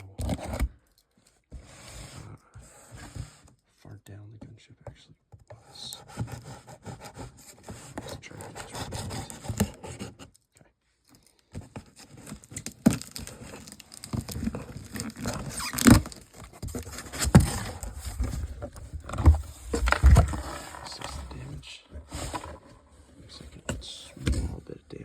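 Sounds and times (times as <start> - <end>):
objects scraping and rustling: 1.5 - 3.6, 5.7 - 10.3, 11.1 - 24.6.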